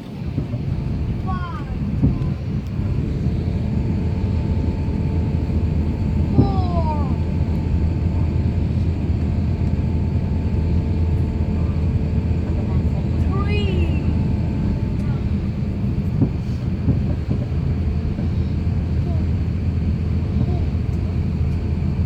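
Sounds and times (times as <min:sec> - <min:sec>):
faint engine whine: 0:00.0 - 0:22.0
jet airliner cabin rumble: 0:00.0 - 0:22.0.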